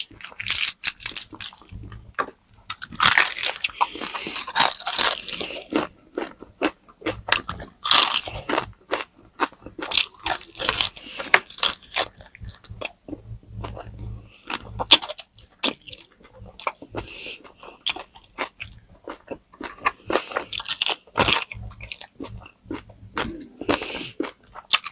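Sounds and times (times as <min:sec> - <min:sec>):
crunchy food being chewed: 0:00.0 - 0:24.9.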